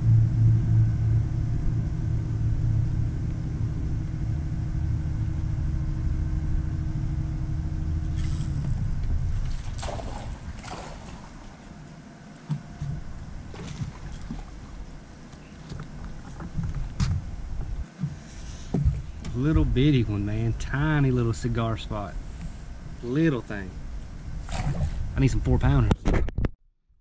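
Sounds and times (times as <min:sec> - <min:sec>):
boat motor rumbling: 0:00.0 - 0:26.1.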